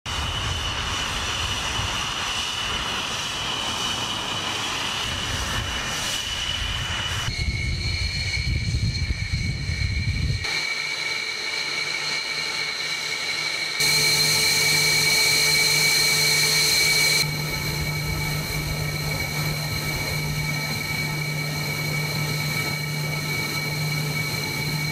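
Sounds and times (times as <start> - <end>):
jet engine rumble: 0.0 - 24.9
jet turbine whine: 0.1 - 24.9.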